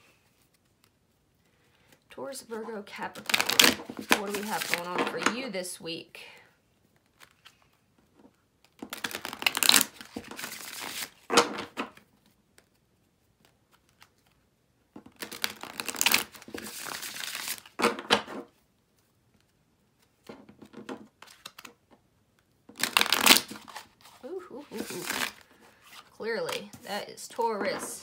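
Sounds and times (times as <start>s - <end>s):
cards being riffle-shuffled: 0.1s - 2.1s, 3.1s - 5.4s, 6.8s - 28.0s.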